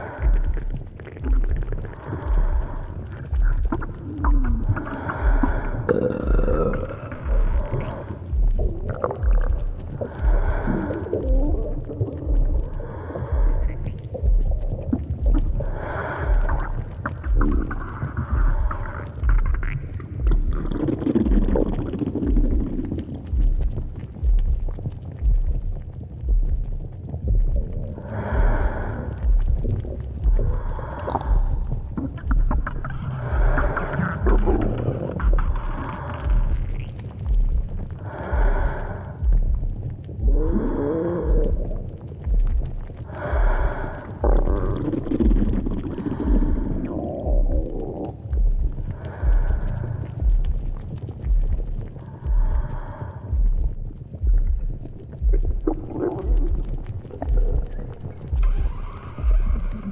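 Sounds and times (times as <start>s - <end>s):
stomach growling and gurgling: 0.0s - 59.9s
low thuds: 0.1s - 59.9s.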